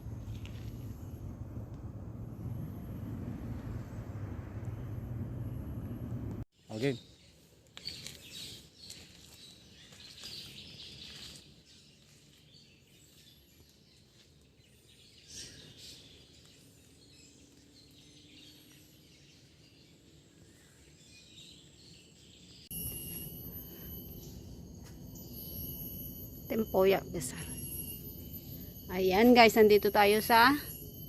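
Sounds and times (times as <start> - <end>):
faint outdoor ambience: 0.0 - 31.0.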